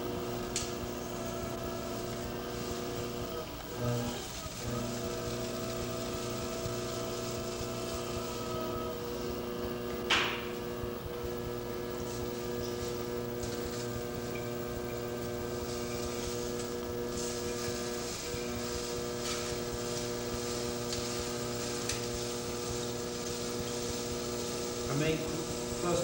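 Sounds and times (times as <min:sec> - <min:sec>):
potter's wheel motor humming: 0:00.0 - 0:26.0.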